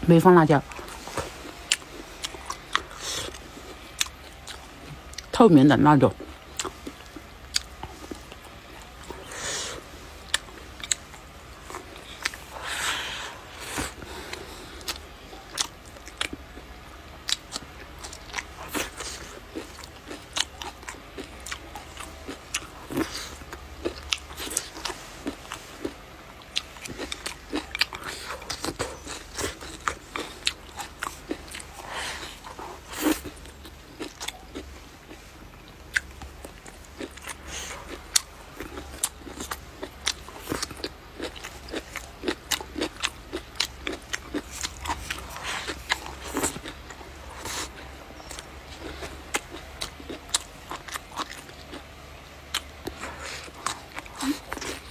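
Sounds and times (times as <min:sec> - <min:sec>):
person chewing food: 0:00.5 - 0:05.3, 0:06.0 - 0:54.9.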